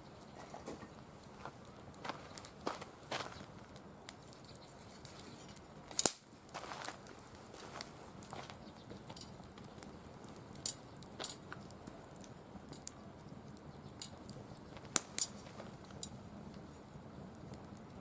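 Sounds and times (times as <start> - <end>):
firewood crackling and popping: 0.1 - 18.0.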